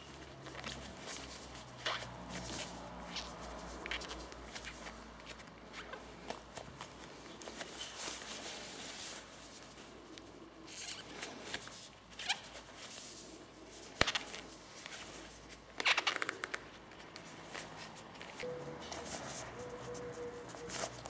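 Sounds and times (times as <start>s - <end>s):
leather rustling: 0.0s - 21.0s.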